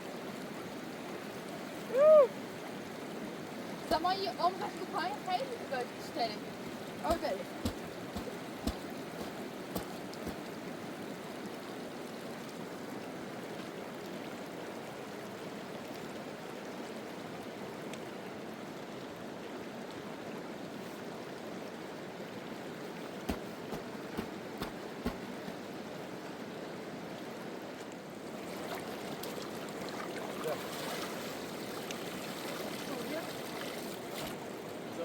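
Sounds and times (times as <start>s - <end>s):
river water flowing: 0.0s - 35.0s.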